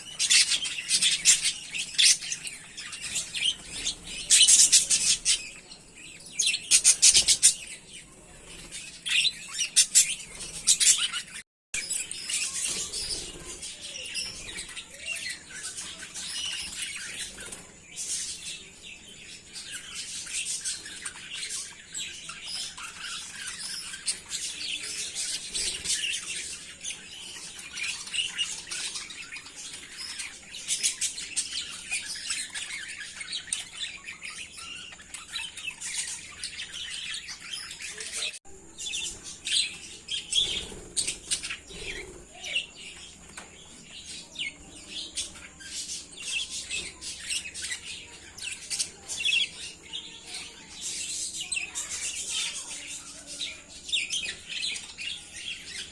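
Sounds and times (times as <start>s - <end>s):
flock of budgerigars chattering: 0.0s - 55.9s.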